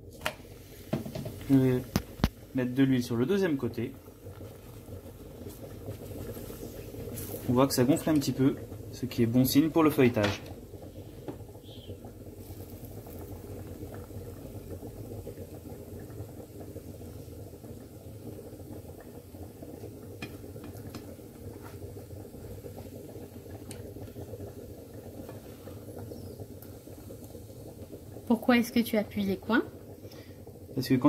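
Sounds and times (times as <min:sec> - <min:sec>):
bread sizzling in a pan: 0:00.0 - 0:31.0.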